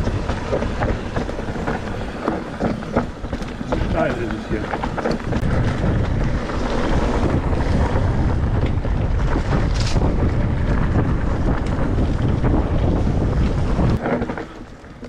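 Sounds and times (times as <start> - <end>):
bike tyres crunching on dirt: 0.0 - 15.0
wind buffeting microphone: 0.0 - 15.0.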